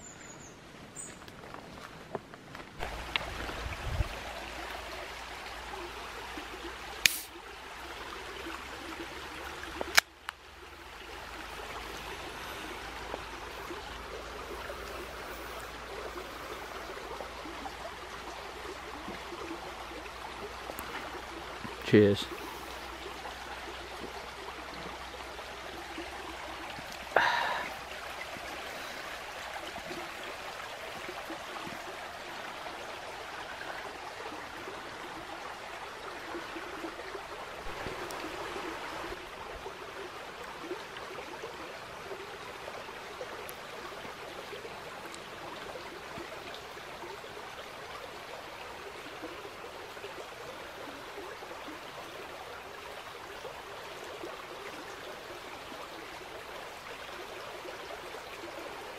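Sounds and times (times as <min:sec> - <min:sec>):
stream running: 0:00.0 - 0:58.9.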